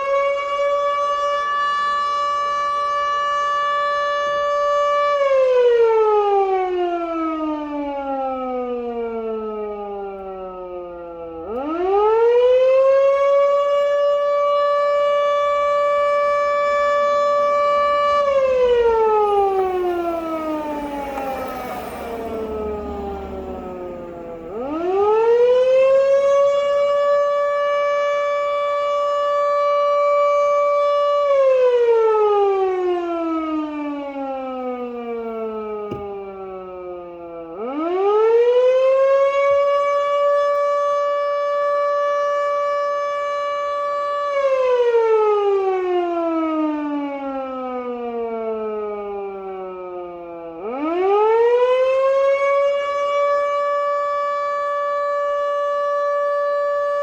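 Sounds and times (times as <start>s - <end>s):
fire siren wailing: 0.0s - 57.0s.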